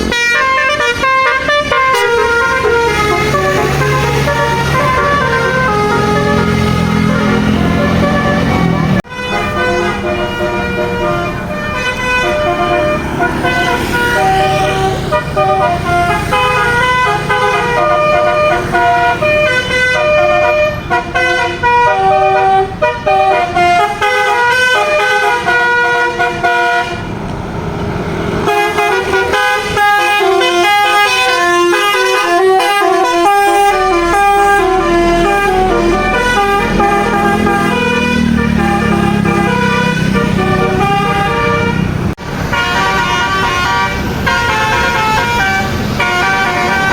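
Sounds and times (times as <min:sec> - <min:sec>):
musical bus horn melody: 0:00.0 - 0:27.2, 0:28.3 - 0:46.9
bus engine running: 0:00.0 - 0:46.9.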